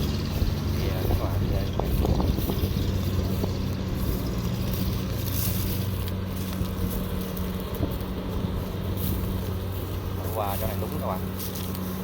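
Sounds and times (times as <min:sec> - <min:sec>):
combine harvester diesel drone: 0:00.0 - 0:12.0.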